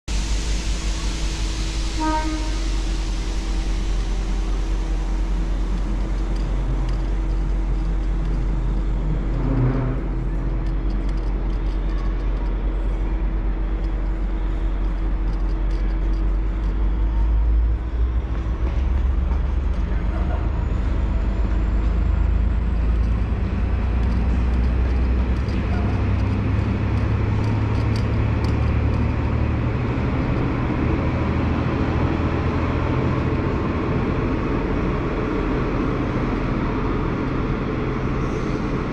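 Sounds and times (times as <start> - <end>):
diesel locomotive engine rumble: 0.0 - 38.9.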